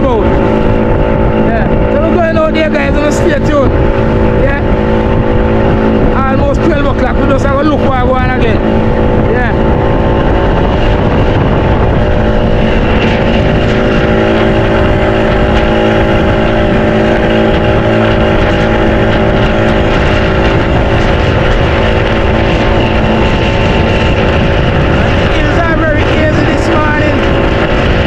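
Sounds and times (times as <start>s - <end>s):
outboard motor running: 0.0s - 28.0s
wind and water rushing: 0.0s - 28.0s.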